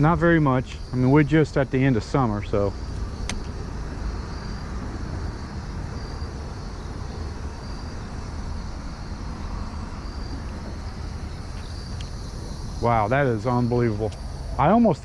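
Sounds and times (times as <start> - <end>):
insect chirping: 0.0 - 15.0
outdoor background rumble: 0.0 - 15.0.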